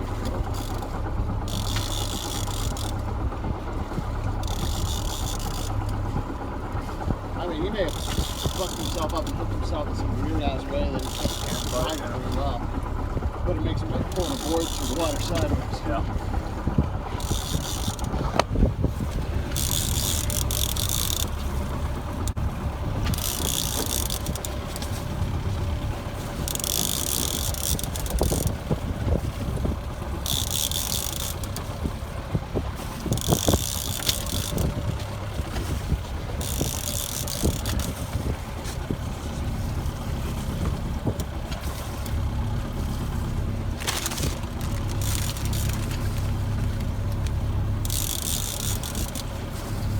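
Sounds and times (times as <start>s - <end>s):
boat engine low rumble: 0.0s - 49.9s.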